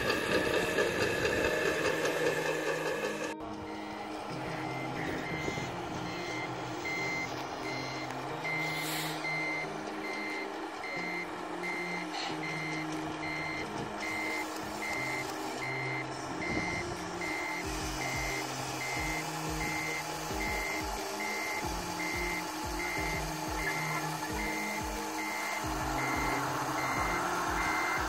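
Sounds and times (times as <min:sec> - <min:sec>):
low engine drone: 0:00.0 - 0:28.0
reversing alarm beeping: 0:00.0 - 0:28.0.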